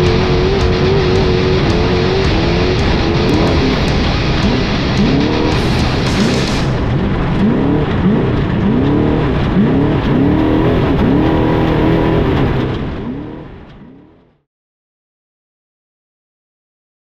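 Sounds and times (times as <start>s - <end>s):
engine revving: 0.0s - 14.4s.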